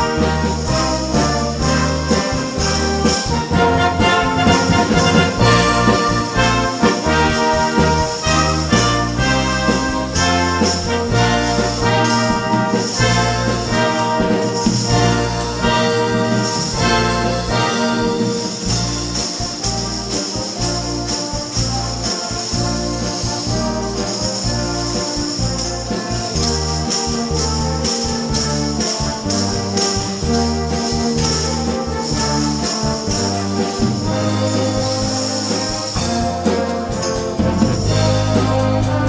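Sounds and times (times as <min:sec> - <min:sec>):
orchestral music with brass: 0:00.0 - 0:39.0
tambourines jingling: 0:00.0 - 0:39.0.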